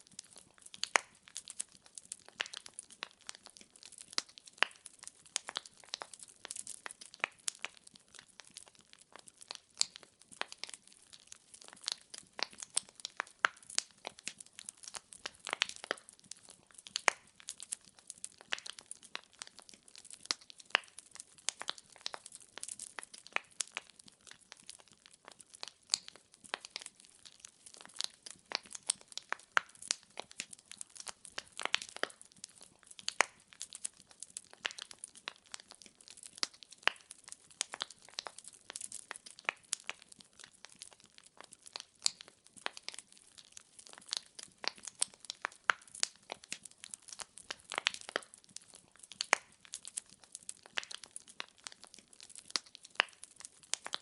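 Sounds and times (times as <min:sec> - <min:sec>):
logs crackling and popping: 0:00.0 - 0:54.0.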